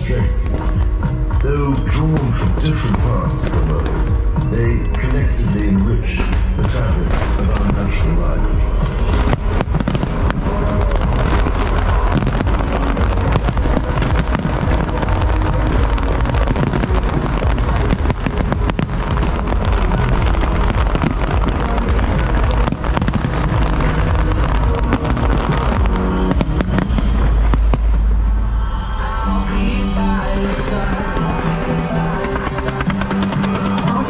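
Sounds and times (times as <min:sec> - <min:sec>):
fireworks bangs and crackling: 0:00.0 - 0:28.4, 0:29.9 - 0:34.0
music playing: 0:00.0 - 0:34.0.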